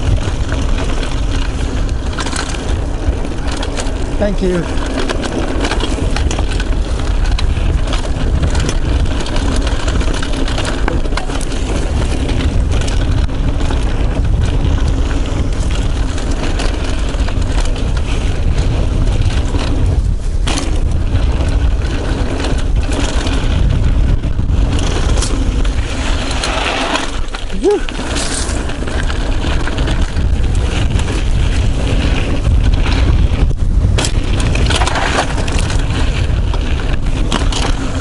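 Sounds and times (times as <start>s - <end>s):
bike rattling clicks and knocks: 0.0s - 38.0s
tyre noise on gravel: 0.0s - 38.0s
wind on microphone: 0.0s - 38.0s.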